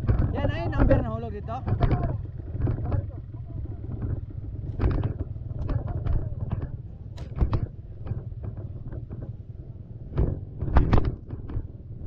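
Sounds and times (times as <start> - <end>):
knocks and clatter on rocks: 0.0 - 9.4, 10.1 - 11.8
dirt bike engine at low revs: 0.0 - 12.0.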